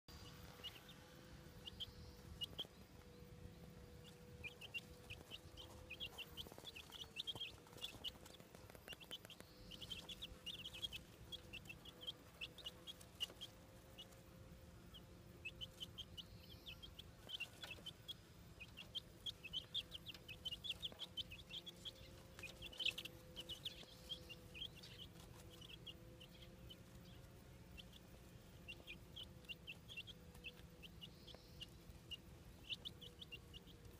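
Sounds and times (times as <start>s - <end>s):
chicks peeping: 0.1s - 33.9s
faint steady hum: 0.1s - 33.9s.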